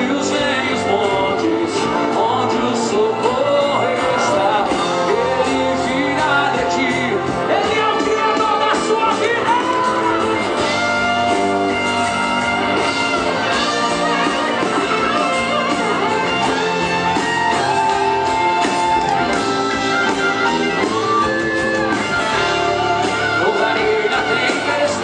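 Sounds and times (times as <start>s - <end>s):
band playing worship music: 0.0s - 25.0s
guitar melody: 0.0s - 25.0s.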